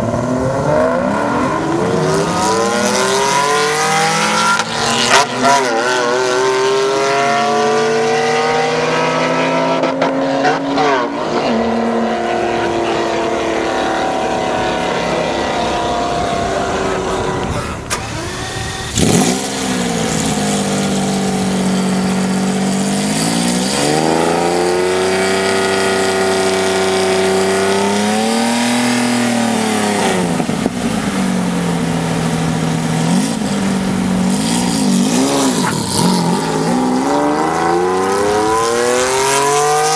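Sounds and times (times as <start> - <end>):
car engine holding steady revs: 0.0 - 39.9
car engine revving: 0.0 - 39.9.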